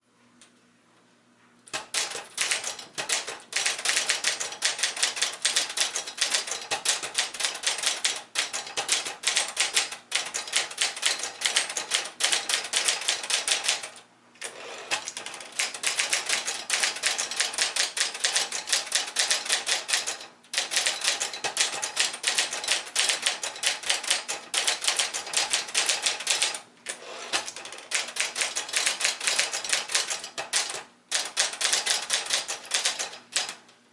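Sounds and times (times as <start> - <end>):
rapid typewriter keystrikes: 1.7 - 33.6.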